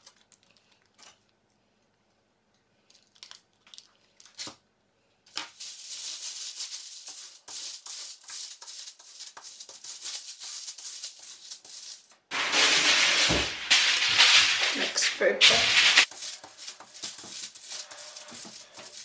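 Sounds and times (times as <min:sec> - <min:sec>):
aluminium foil crinkling: 0:00.0 - 0:01.3, 0:02.8 - 0:04.6, 0:05.4 - 0:19.0.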